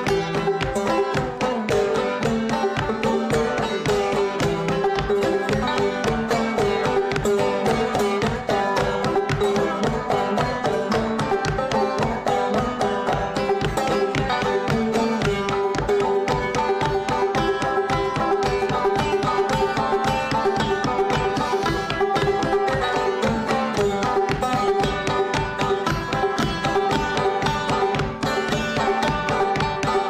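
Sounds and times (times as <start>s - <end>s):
banjo played clawhammer style: 0.0s - 30.0s.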